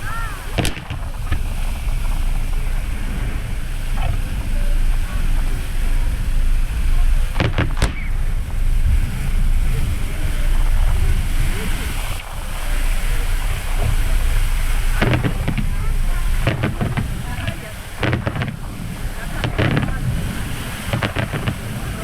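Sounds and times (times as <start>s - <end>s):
firework bangs: 0.0s - 22.0s
water noise from moving boat: 0.0s - 22.0s
wind on microphone: 0.0s - 22.0s.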